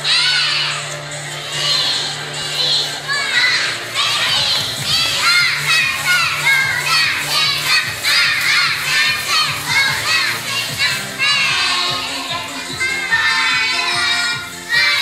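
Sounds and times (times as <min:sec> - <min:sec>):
children shouting a cheer: 0:00.0 - 0:15.0.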